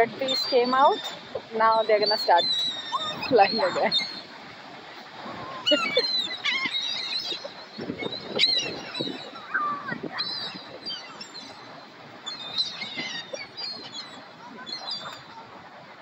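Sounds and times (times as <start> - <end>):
seagulls squealing: 0.1 - 16.0.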